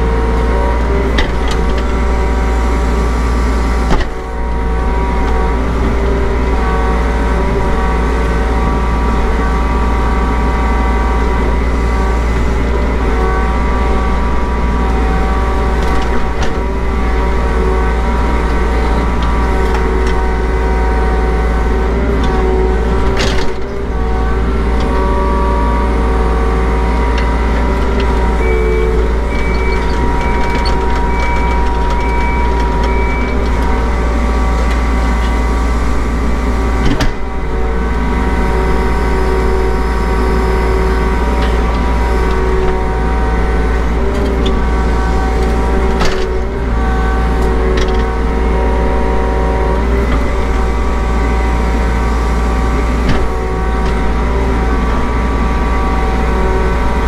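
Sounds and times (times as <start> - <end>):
excavator diesel engine running: 0.0 - 57.0
hydraulic whining: 0.0 - 57.0.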